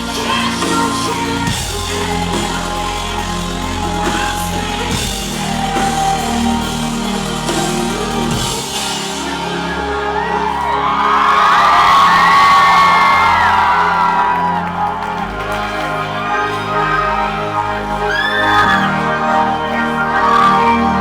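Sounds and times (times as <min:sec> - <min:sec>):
deep bass: 0:00.0 - 0:21.0
drums: 0:00.0 - 0:21.0
sustained chords: 0:00.0 - 0:21.0.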